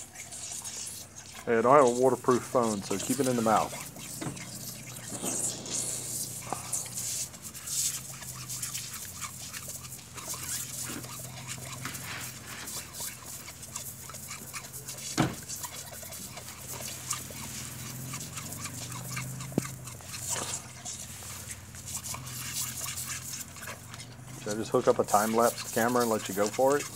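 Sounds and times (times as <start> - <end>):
dog lapping water: 0.0 - 26.9
water splashing: 0.0 - 26.9.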